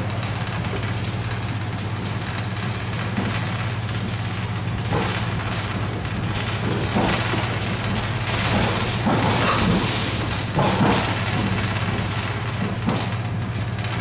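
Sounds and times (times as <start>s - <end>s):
train rattling over track: 0.0s - 14.0s.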